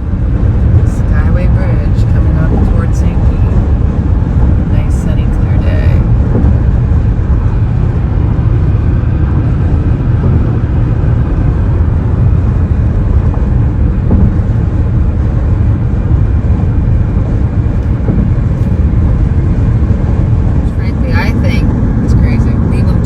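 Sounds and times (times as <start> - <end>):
road and wind noise rumble: 0.0 - 23.0.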